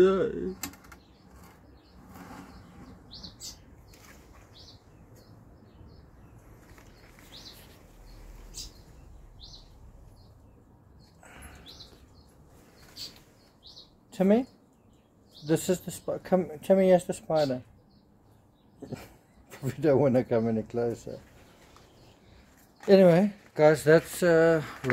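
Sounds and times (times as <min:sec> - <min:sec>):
bird chirping: 0:00.0 - 0:24.9
faint outdoor background noise: 0:00.0 - 0:24.9.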